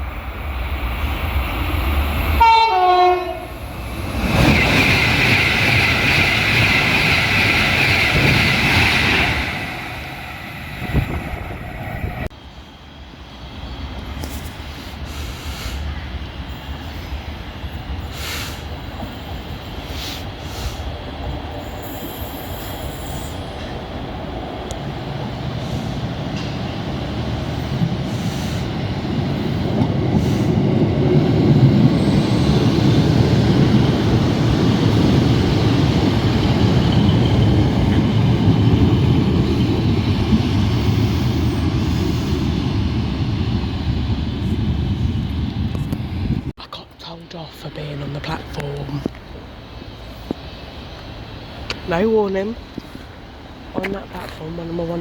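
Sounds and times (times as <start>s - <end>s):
train running noise: 0.0s - 55.0s.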